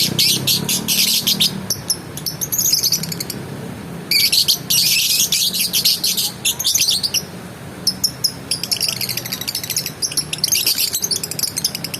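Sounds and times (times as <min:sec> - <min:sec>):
lovebird chattering chirps: 0:00.0 - 0:03.4, 0:04.1 - 0:11.9.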